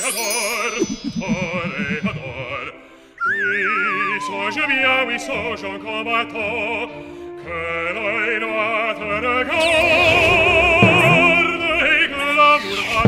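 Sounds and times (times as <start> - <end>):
operatic singing with vibrato: 0.0 - 13.0
orchestral music: 0.0 - 13.0.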